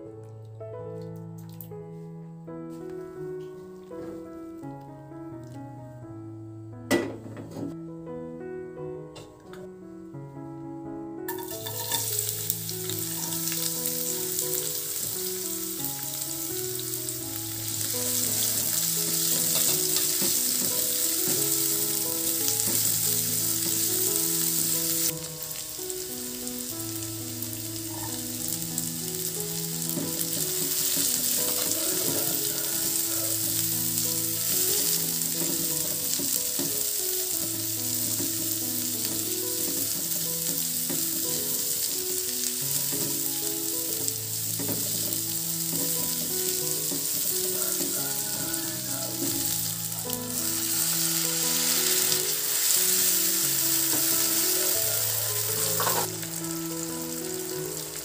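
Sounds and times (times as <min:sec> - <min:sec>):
slow melodic background music: 0:00.0 - 0:58.0
vegetables sizzling in hot oil: 0:11.3 - 0:58.0.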